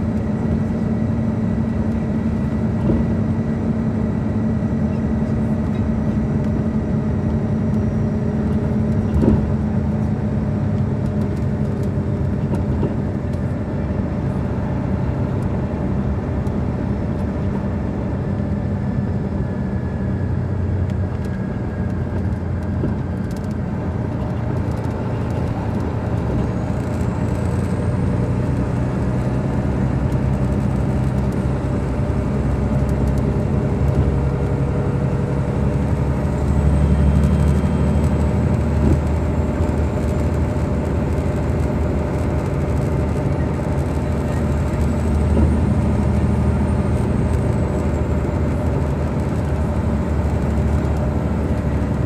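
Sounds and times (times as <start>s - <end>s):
diesel bus engine idling: 0.0s - 52.0s.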